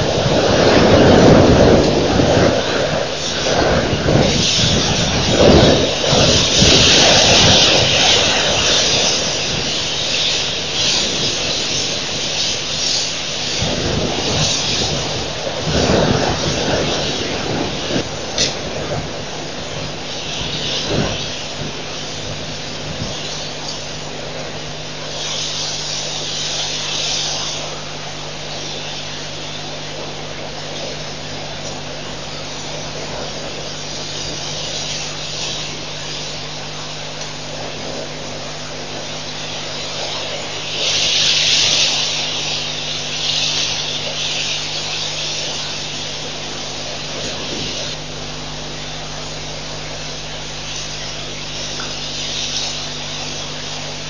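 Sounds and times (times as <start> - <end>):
constant hiss: 0.0 - 54.0
high buzzing hiss: 0.0 - 54.0
low electrical hum: 0.0 - 54.0.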